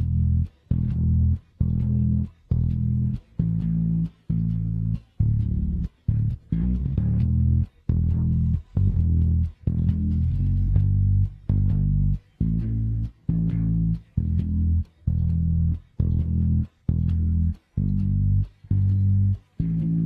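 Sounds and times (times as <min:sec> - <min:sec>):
electric bass plucked notes: 0:00.0 - 0:20.0.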